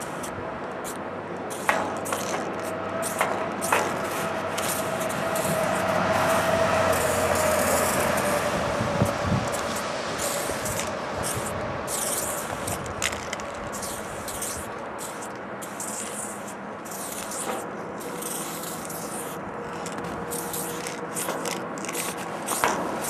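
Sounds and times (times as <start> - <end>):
spray paint can hissing: 0.0 - 23.0.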